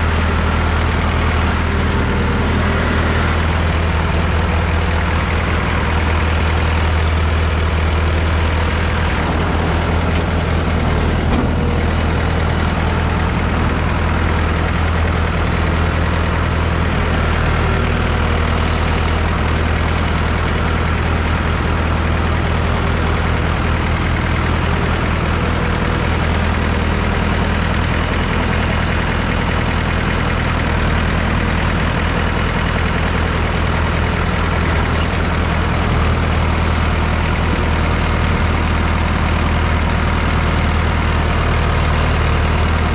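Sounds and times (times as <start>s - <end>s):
diesel tractor engine running: 0.0s - 42.9s.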